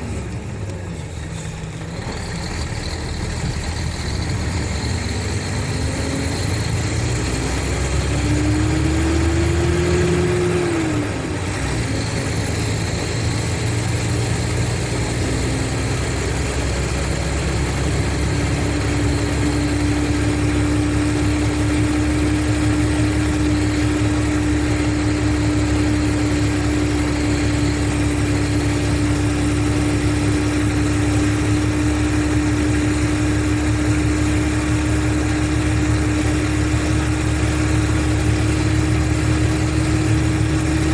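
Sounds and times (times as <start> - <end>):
diesel bus engine running: 0.0 - 40.9
engine whine: 0.0 - 40.9.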